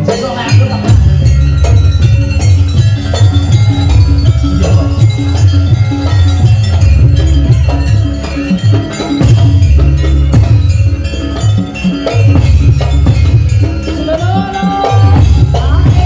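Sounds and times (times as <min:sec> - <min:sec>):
gamelan ensemble drums and gongs: 0:00.0 - 0:16.0.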